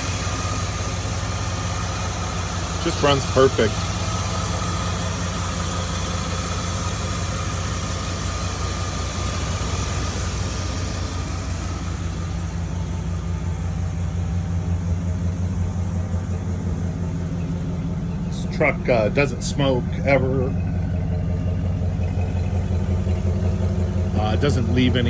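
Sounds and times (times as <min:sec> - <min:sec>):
pickup engine idling: 0:00.0 - 0:25.0.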